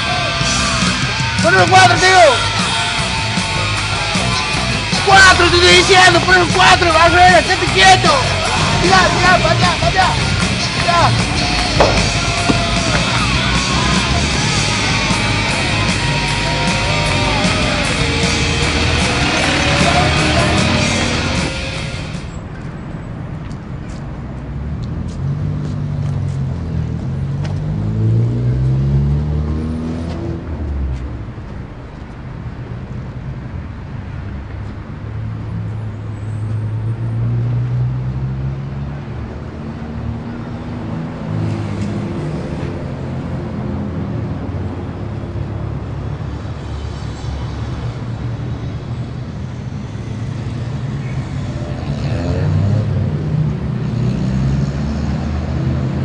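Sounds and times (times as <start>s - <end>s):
steady traffic hum: 0.0s - 56.0s
vehicles driving past: 0.0s - 56.0s.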